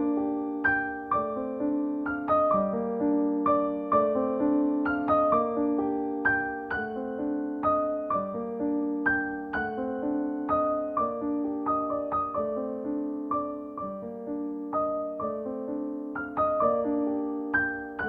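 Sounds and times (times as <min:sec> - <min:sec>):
soft piano music: 0:00.0 - 0:18.0.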